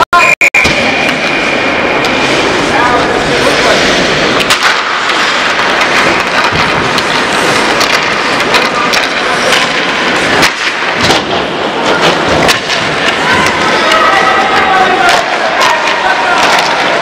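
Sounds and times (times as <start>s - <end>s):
hockey sticks and puck clacking: 0.6s - 17.0s
skates rushing on ice: 1.0s - 17.0s.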